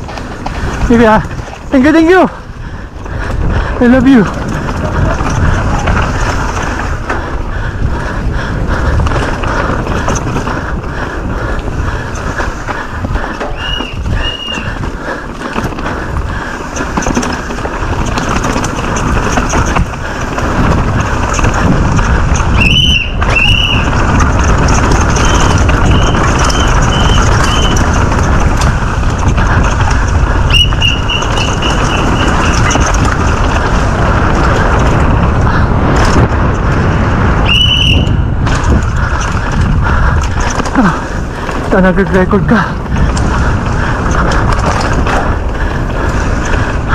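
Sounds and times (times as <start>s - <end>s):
mountain bike rattling: 0.0s - 46.9s
wind buffeting microphone: 0.0s - 46.9s.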